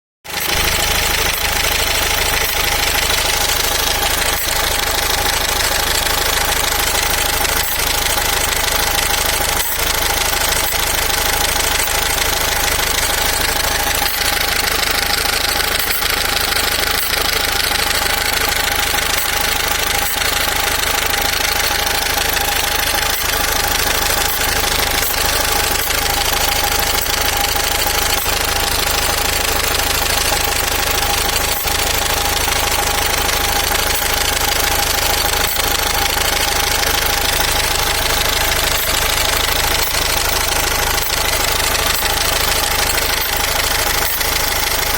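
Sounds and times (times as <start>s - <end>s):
engine running: 0.2s - 44.9s
constant tone: 0.3s - 44.9s.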